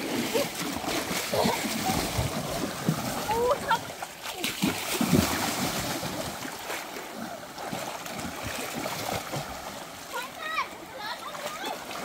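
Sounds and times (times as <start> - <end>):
flowing stream rushing: 0.0 - 12.0
water splashing: 0.0 - 12.0.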